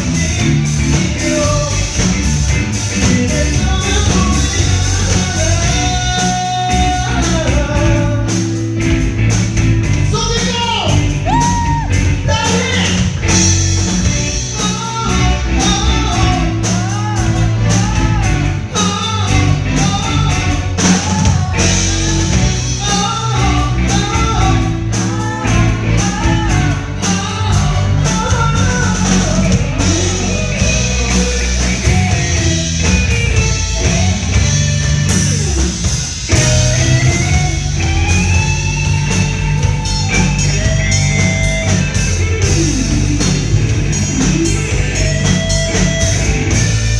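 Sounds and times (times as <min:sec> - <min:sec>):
person singing: 0:00.0 - 0:46.7
pop-rock band playing: 0:00.0 - 0:46.9.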